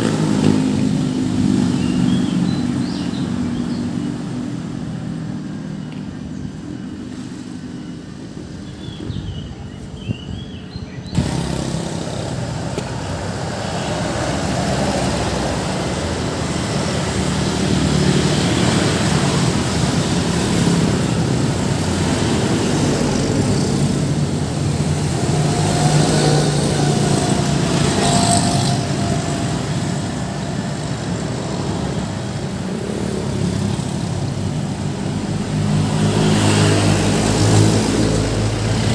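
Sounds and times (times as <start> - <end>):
motorcycles passing: 0.0 - 10.0, 10.8 - 38.9
busy road traffic: 0.0 - 38.9.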